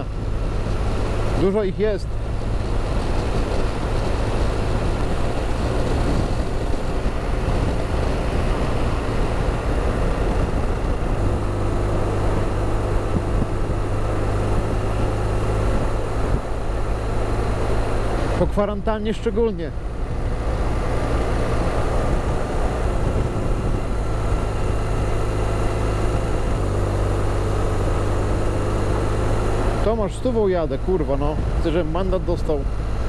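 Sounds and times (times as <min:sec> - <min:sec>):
wind rush: 0:00.0 - 0:18.5, 0:19.7 - 0:29.8
motorcycle engine cruising: 0:00.0 - 0:33.0
road noise: 0:00.0 - 0:33.0.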